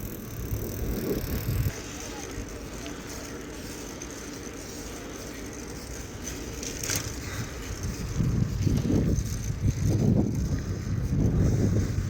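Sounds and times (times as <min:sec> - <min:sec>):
wind buffeting microphone: 0:00.0 - 0:03.6, 0:05.8 - 0:12.0
bicycle tyre road noise: 0:00.0 - 0:12.0.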